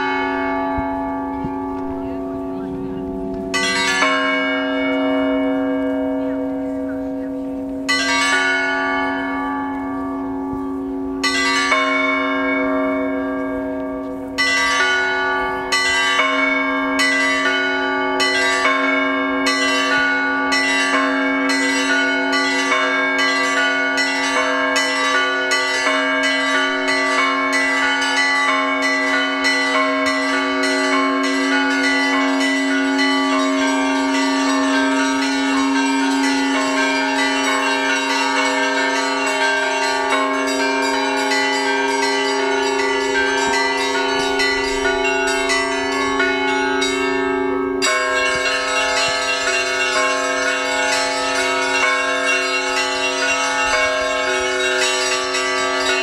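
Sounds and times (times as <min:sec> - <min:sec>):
church bells rung by hand: 0:00.0 - 0:56.0
hum of large bell: 0:00.0 - 0:56.0.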